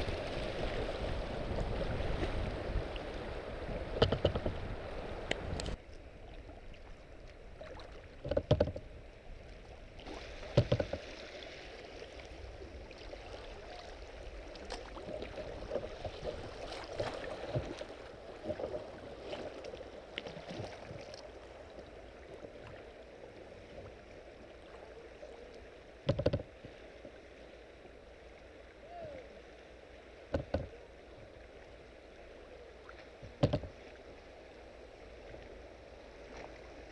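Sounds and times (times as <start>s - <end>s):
river water rippling past hull: 0.0s - 36.9s.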